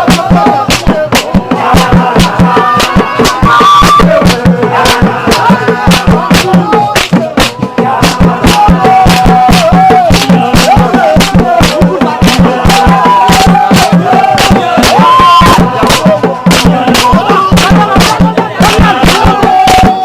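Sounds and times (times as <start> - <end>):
person singing: 0.0 - 20.0
quick drum beat: 0.0 - 20.0.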